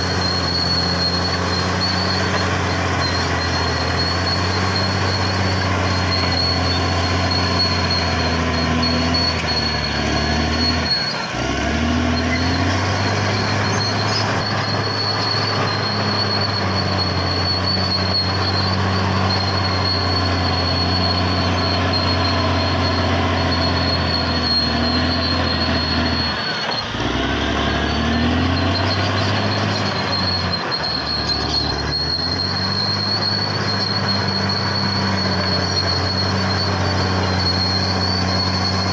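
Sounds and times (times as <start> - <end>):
bulldozer diesel engine: 0.0 - 38.9
track squeal: 0.0 - 38.9.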